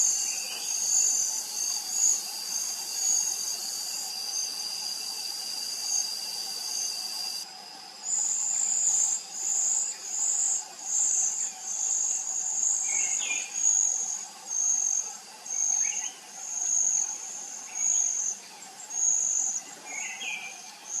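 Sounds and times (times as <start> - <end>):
insect buzzing: 0.0 - 21.0.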